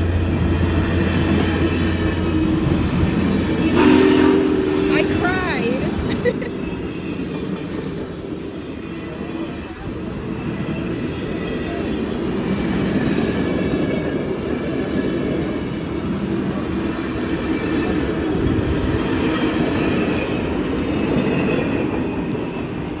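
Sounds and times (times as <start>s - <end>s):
steam train wheels rumbling on rails: 0.0s - 23.0s
train clatter: 0.0s - 23.0s.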